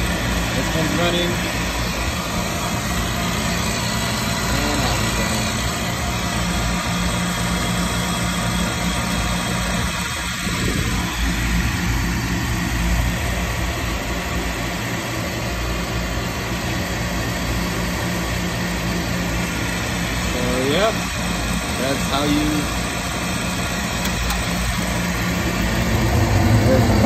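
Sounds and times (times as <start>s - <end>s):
inducer motor humming: 0.0s - 27.0s.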